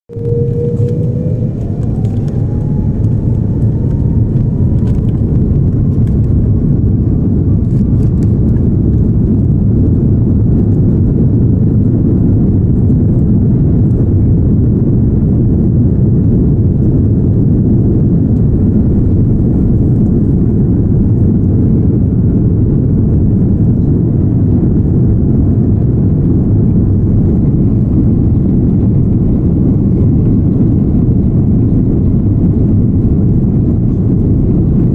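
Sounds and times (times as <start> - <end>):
jet engine rumble: 0.0 - 34.9
jet engine whine: 0.0 - 34.9.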